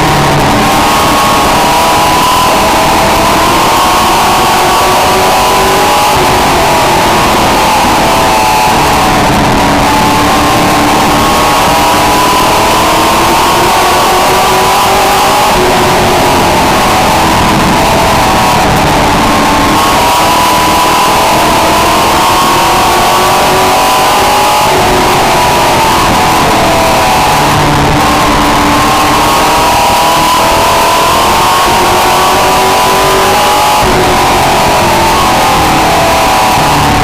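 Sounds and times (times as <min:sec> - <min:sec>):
race truck engine at full throttle: 0:00.0 - 0:37.0.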